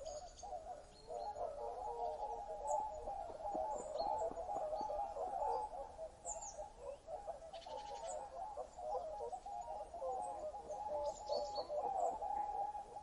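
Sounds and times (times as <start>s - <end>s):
continuous bird chatter: 0.0s - 13.0s.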